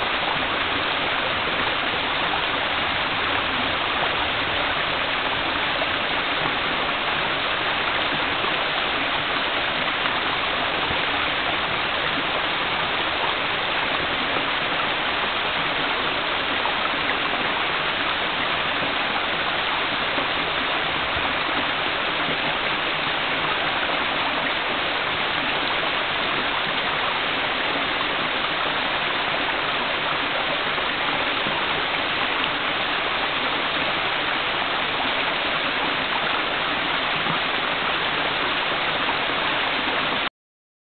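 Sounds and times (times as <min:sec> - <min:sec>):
waterfall rushing: 0:00.0 - 0:40.3.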